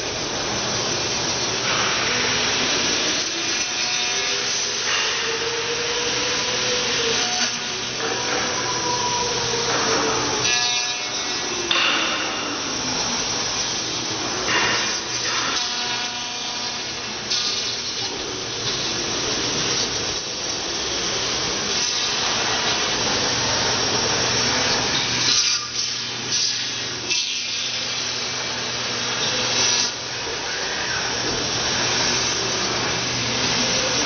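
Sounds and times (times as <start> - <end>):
cnc machine cutting: 0.0 - 34.0.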